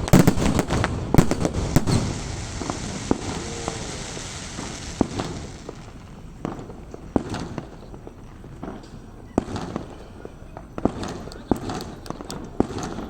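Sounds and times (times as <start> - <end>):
fireworks bangs and pops: 0.0 - 13.0
steady background noise: 0.0 - 13.0.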